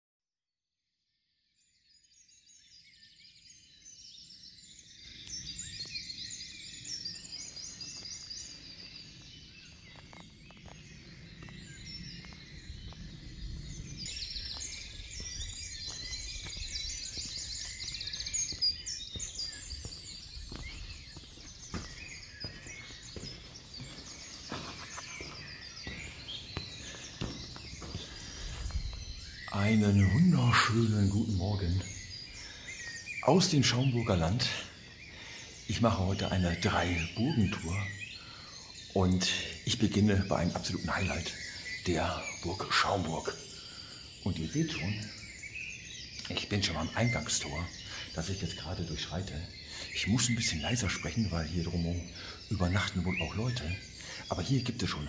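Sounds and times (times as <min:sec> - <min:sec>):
songbirds chirping and trilling: 0:01.3 - 0:55.0.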